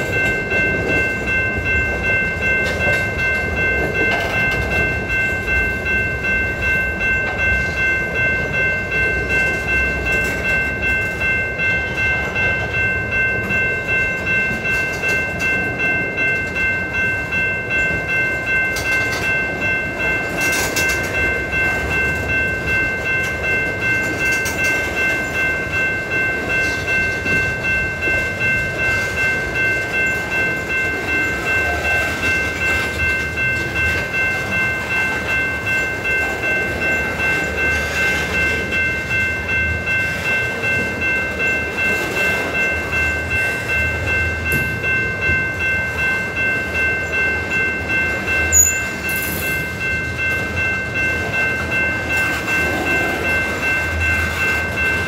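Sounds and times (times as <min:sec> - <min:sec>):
freight train rolling past: 0:00.0 - 0:55.0
high-pitched ringing tone: 0:00.0 - 0:55.0.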